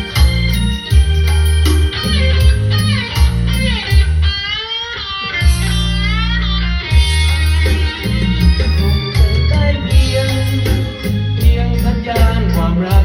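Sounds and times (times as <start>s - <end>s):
pulsing bass line: 0.0s - 4.4s, 5.4s - 13.0s
electric guitar lead melody: 0.0s - 13.0s.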